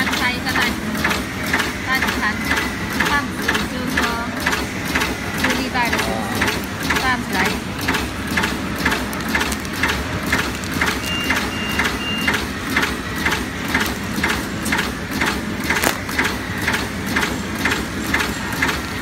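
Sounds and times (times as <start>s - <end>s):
bag-making machine strokes: 0.0s - 19.0s.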